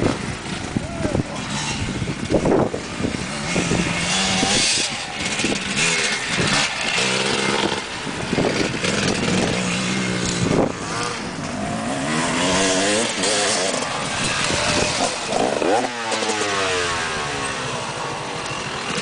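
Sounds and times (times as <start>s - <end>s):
motocross motorcycle engine revving: 0.0s - 19.0s.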